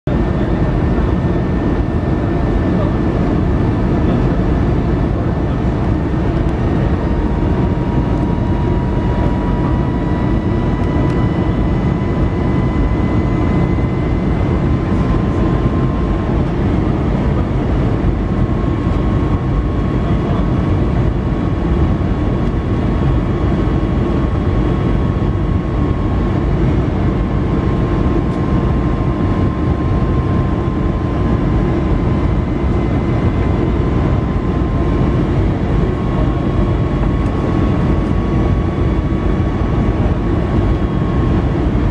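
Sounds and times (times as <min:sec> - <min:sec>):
engine whine: 0:00.1 - 0:41.9
jet engine drone and airflow: 0:00.1 - 0:41.9.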